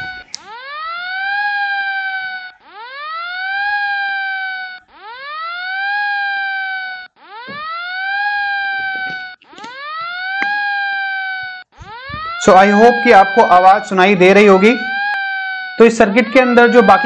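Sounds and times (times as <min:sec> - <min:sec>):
electronic siren alarm: 0:00.0 - 0:17.0.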